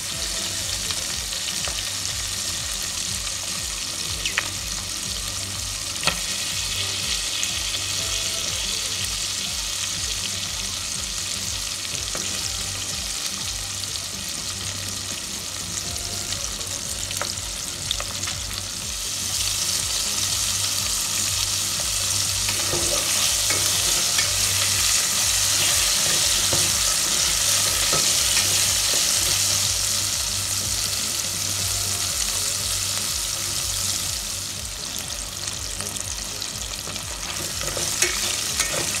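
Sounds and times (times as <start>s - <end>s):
chicken deep-frying in oil: 0.0s - 39.0s.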